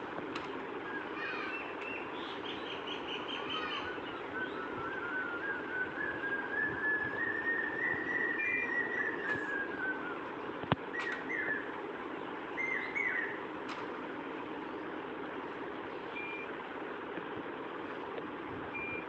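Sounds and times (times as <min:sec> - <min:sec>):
birds calling: 0:00.0 - 0:19.0
steady background hiss: 0:00.0 - 0:19.0.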